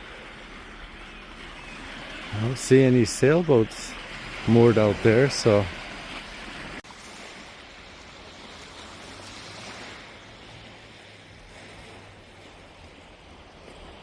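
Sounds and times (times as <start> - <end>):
small waves breaking on beach: 0.0 - 14.0.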